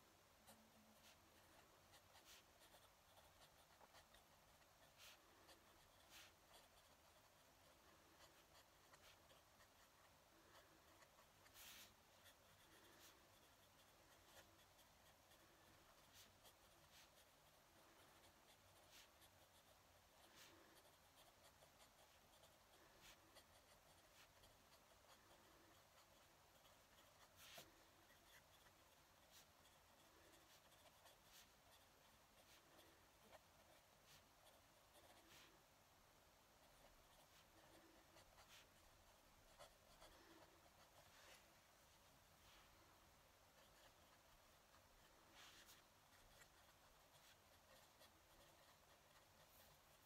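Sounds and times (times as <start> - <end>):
pen nib scratching on paper: 0.0 - 50.0.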